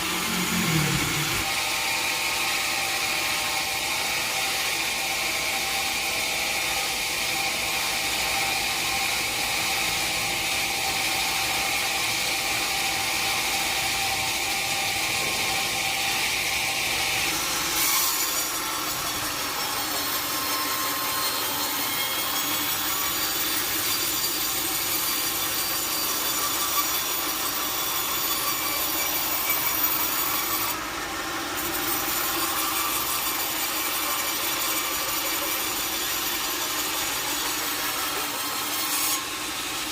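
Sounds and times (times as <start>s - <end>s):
saw cutting through log: 0.0s - 39.9s
thin saw blade whine: 0.0s - 39.9s.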